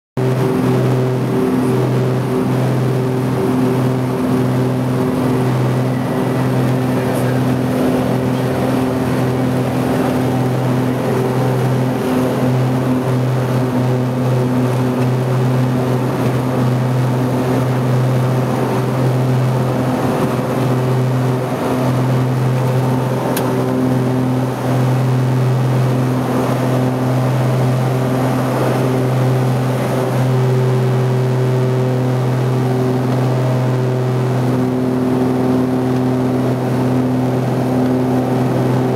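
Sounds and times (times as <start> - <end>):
propeller plane engines droning: 0.2 - 38.9.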